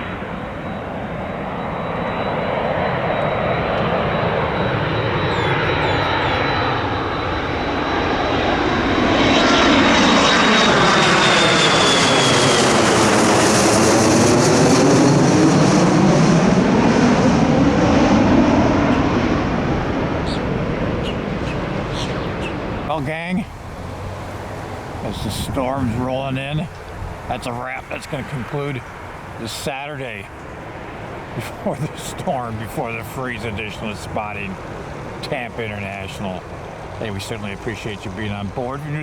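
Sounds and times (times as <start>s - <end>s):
jet airliner passing by: 0.0s - 39.0s.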